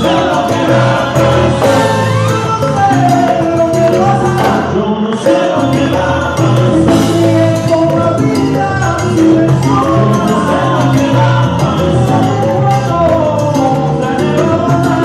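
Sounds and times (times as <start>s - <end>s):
bass line: 0.0s - 15.0s
percussion: 0.0s - 15.0s
salsa band playing: 0.0s - 15.0s.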